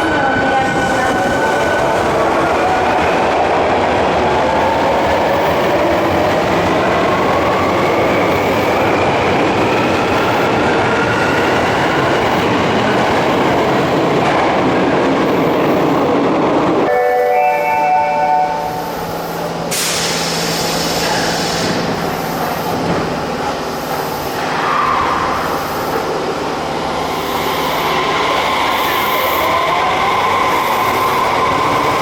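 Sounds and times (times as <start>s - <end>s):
train wheels rumbling on rail: 0.0s - 17.2s, 18.4s - 32.0s.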